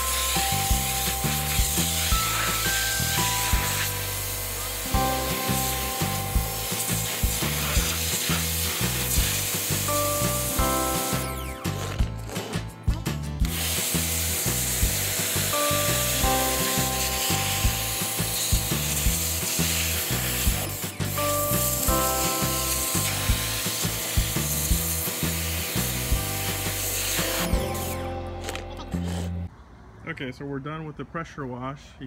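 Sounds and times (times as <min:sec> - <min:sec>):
pressure washer spraying water: 0:00.0 - 0:12.6, 0:13.4 - 0:28.1
background music with bass line: 0:00.0 - 0:29.5.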